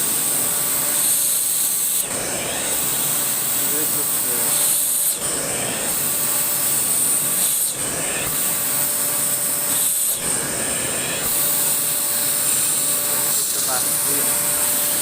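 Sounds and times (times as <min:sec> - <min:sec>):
electric air blower running: 0:00.0 - 0:15.0.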